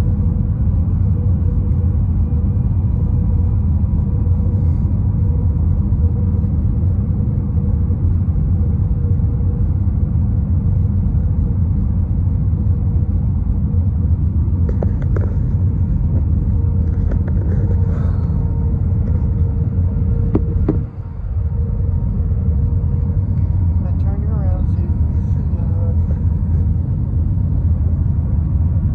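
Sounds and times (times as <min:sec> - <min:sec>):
airplane cabin engine rumble: 0:00.0 - 0:28.9
constant hum: 0:00.0 - 0:28.9.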